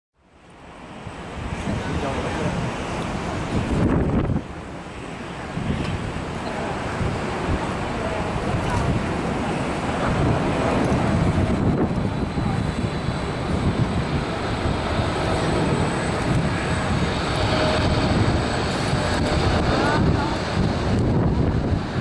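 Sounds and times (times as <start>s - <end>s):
jet engine rumble: 0.2s - 22.0s
wind buffeting microphone: 0.6s - 22.0s.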